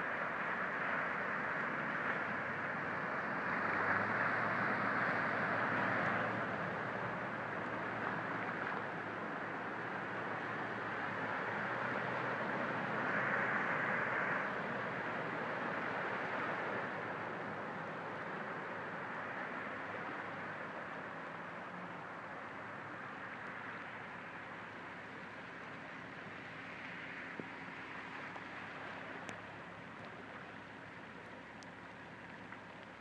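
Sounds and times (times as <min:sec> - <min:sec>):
rushing hiss of water: 0:00.0 - 0:33.0
tyres splashing through water: 0:00.4 - 0:33.0.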